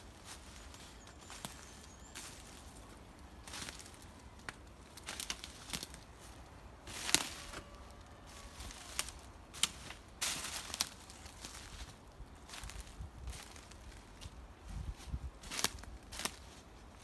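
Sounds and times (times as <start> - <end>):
footsteps on dry forest litter: 0.0 - 17.0.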